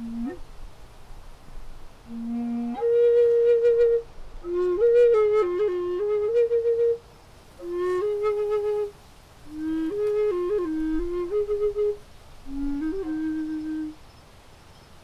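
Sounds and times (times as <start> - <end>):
solo flute melody: 0.0 - 0.5, 2.0 - 14.1.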